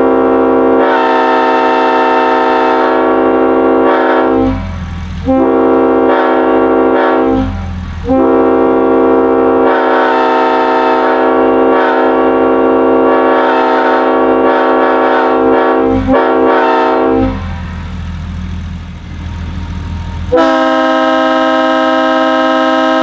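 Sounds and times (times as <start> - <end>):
train air horn blasts: 0.0 - 18.2, 19.1 - 23.0.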